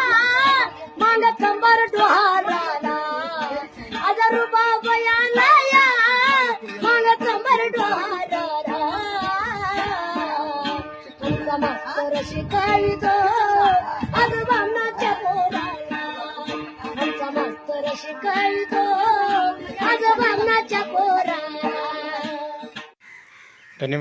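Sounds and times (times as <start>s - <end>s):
woman singing folk song: 0.0s - 23.0s.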